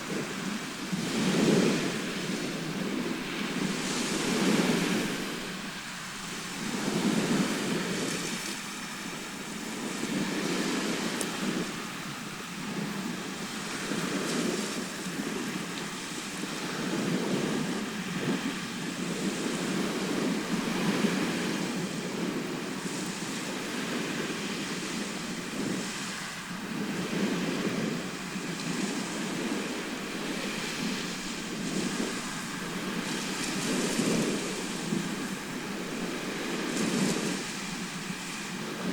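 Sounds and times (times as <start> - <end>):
sea surf waves washing in: 0.0 - 38.9.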